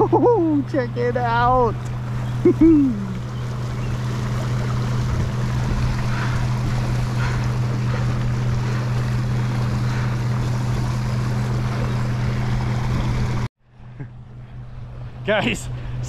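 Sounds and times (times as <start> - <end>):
water rushing and churning: 0.0 - 13.5
constant low hum: 0.0 - 16.0.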